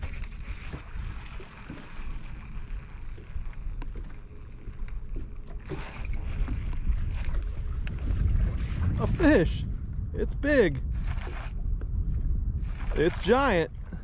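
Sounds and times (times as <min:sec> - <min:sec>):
waves lapping boat hull: 0:00.0 - 0:09.6, 0:10.9 - 0:11.6, 0:12.6 - 0:14.0
wind buffeting microphone: 0:00.0 - 0:14.0.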